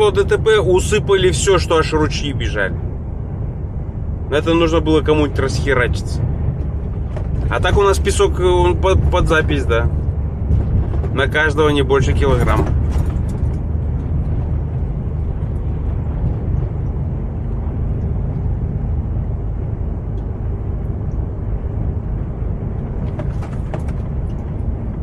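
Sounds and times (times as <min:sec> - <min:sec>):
road noise: 0:00.0 - 0:25.0
truck diesel engine rumbling: 0:00.0 - 0:25.0.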